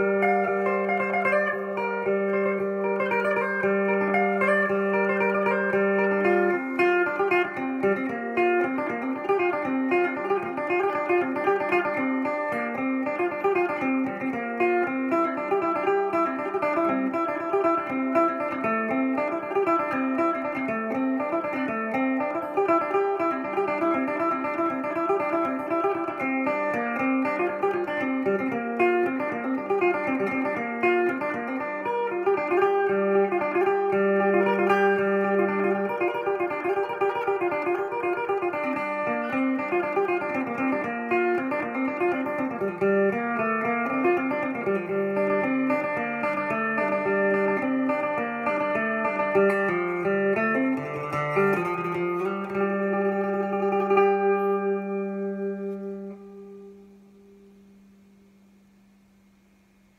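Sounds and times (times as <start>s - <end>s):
plucked lute melody with drone: 0.0s - 57.6s.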